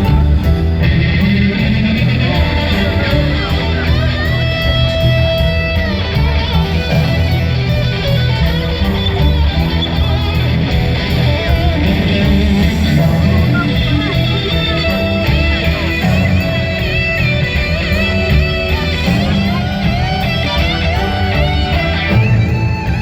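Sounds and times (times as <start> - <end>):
loud rock music: 0.0 - 23.0.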